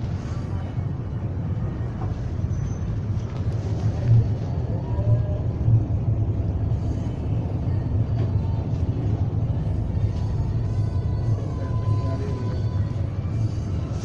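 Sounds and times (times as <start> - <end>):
faint music: 0.0 - 14.0
motor vehicle rumble: 0.0 - 14.0.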